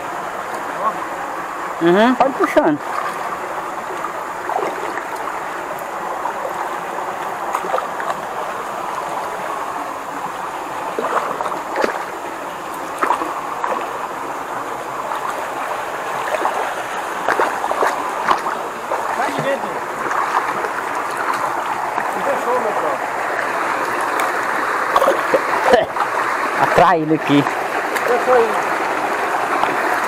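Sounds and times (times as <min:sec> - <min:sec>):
light water splashes: 0:00.0 - 0:30.0
stream water rushing: 0:00.0 - 0:30.0.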